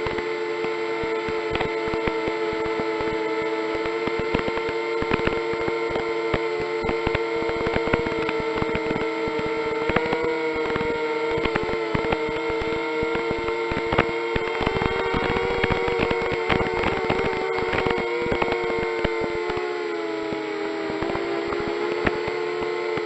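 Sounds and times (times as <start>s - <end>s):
crackling clicks: 0.0s - 23.0s
drone motors whining: 0.0s - 23.0s.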